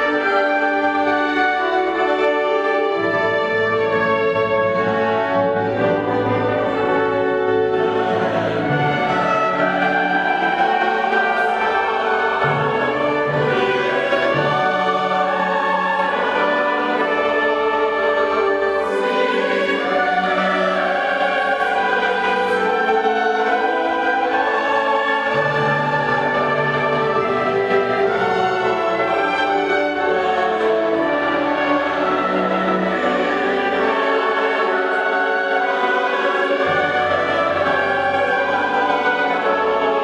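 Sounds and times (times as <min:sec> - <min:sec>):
choir singing sacred music: 0:00.0 - 0:40.0
orchestral accompaniment: 0:00.0 - 0:40.0.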